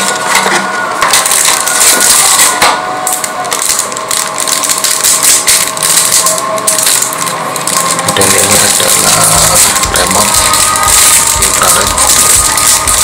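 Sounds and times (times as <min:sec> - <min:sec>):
cardboard packaging rustling: 0:00.0 - 0:13.0
plastic bag crinkling: 0:00.0 - 0:13.0.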